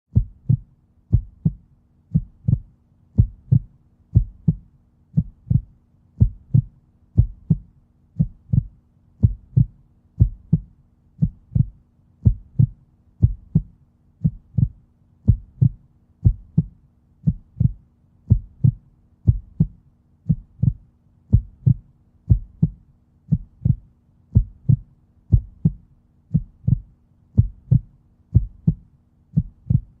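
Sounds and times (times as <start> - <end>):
heartbeat thumps: 0.1 - 30.0.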